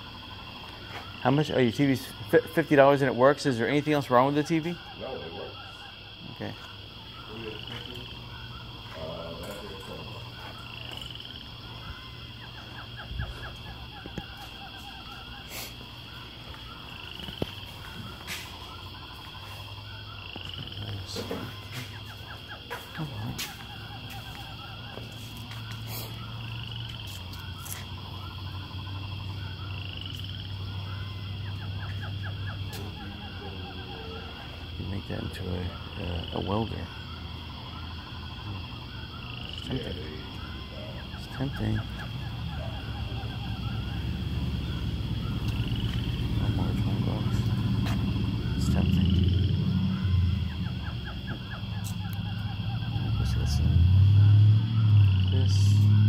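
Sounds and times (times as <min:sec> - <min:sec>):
short chirping calls with trills: 0:00.0 - 0:56.0
steady low hum: 0:00.0 - 0:56.0.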